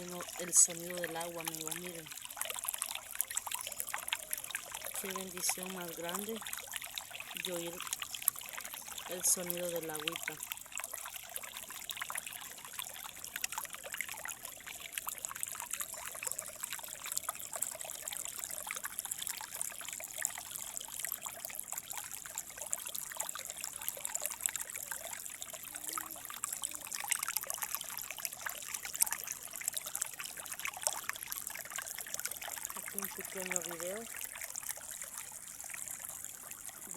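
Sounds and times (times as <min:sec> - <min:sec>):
river water splashing over stones: 0:00.0 - 0:36.9.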